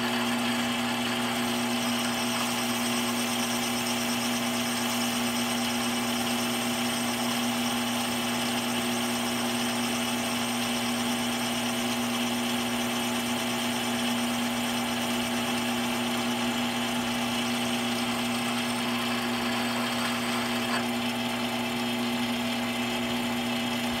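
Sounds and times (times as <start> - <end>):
lathe motor humming and whining: 0.0 - 24.0.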